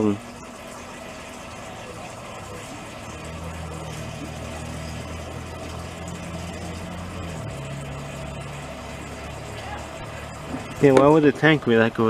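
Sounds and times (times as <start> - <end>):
electric fuel pump humming: 0.0 - 12.0.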